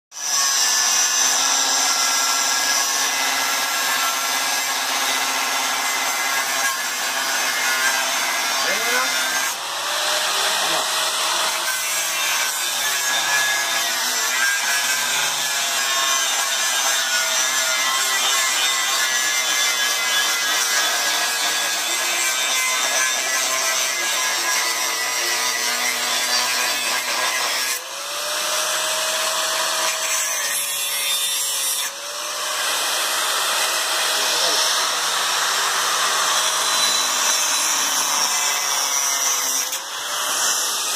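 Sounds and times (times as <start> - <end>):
angle grinder cutting steel: 0.1 - 40.9.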